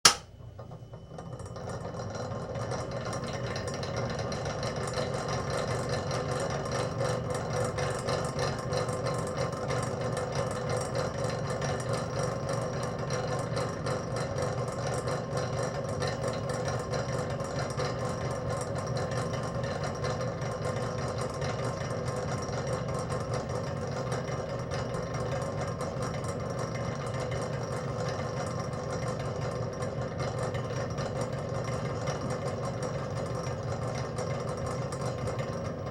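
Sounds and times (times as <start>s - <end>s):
spinning machine hum and clatter: 0.1s - 35.9s.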